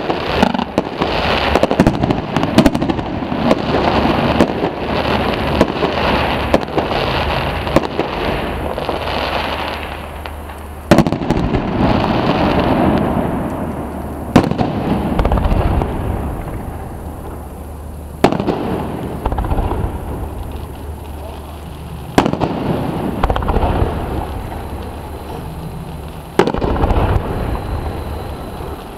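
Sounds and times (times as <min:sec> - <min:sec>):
crackle of firework sparks: 0:00.0 - 0:28.9
firework shells bursting: 0:00.0 - 0:28.9.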